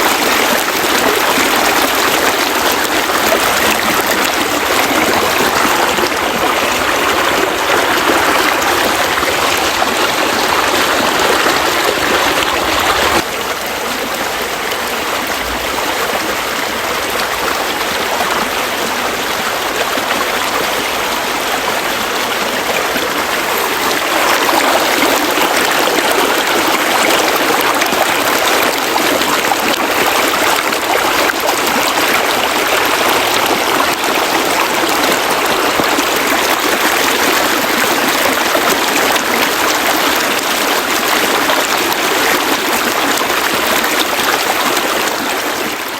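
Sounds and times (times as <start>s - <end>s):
flowing water rushing: 0.0s - 45.9s.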